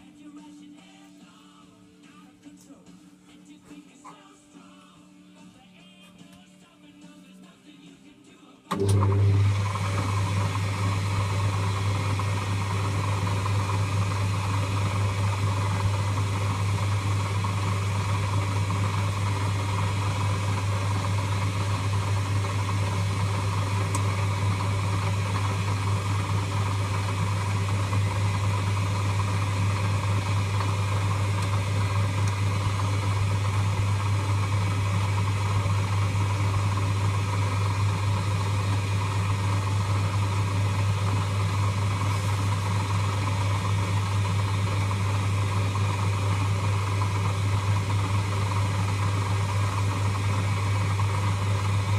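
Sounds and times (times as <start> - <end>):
lathe humming: 8.7 - 51.9.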